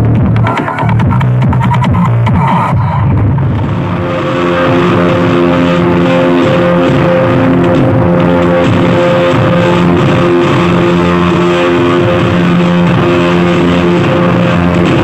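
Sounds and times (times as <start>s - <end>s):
music with held notes: 0.0s - 15.0s.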